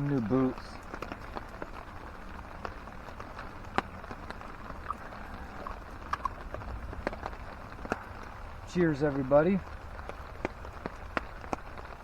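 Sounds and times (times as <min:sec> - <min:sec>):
creek rushing: 0:00.0 - 0:12.0
rain drips and pops: 0:00.0 - 0:12.0.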